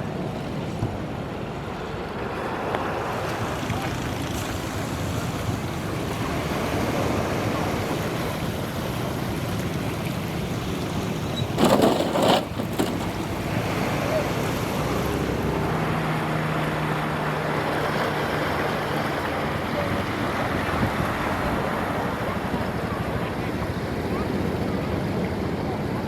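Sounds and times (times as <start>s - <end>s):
wind on microphone: 2.2s - 26.0s.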